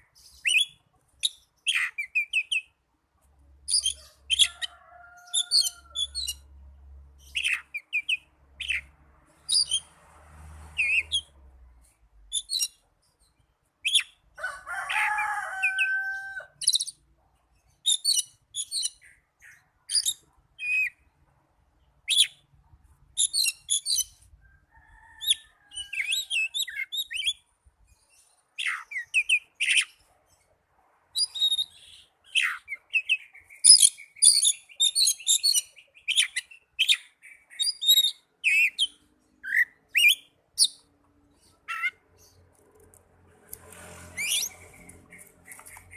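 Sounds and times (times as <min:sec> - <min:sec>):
magpie-robin singing: 0:00.0 - 0:02.8, 0:03.7 - 0:06.5, 0:07.2 - 0:09.9, 0:10.8 - 0:11.4, 0:12.3 - 0:14.3, 0:14.9 - 0:21.1, 0:22.0 - 0:22.5, 0:23.1 - 0:24.3, 0:25.1 - 0:30.1, 0:31.1 - 0:42.4, 0:44.2 - 0:45.9.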